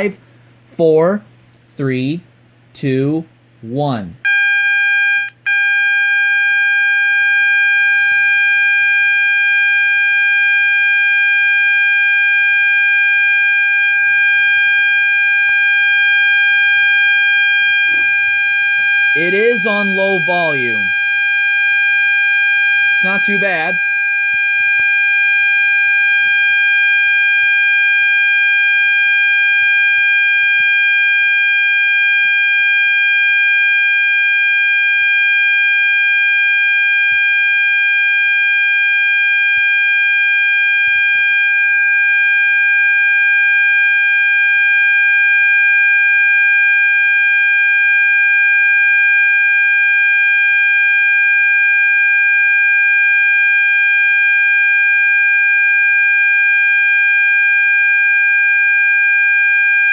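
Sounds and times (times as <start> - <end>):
alarm sounder steady tone: 0.0 - 2.2, 2.8 - 59.9.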